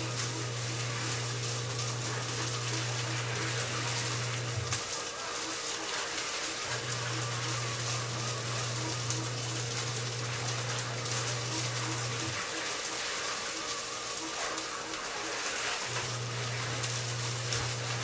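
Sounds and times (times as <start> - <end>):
electric fan rushing hiss: 0.0 - 18.0.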